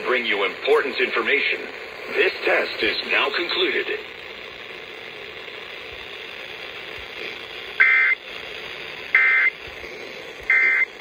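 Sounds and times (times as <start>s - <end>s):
buzzy digital data bursts: 0.0s - 11.0s
radio broadcast hiss: 0.0s - 11.0s.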